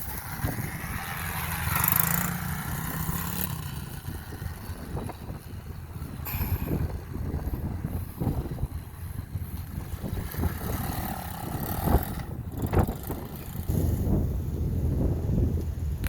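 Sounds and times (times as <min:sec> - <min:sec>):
small four-stroke engine running: 0:00.0 - 0:16.0
wind buffeting microphone: 0:00.0 - 0:16.0.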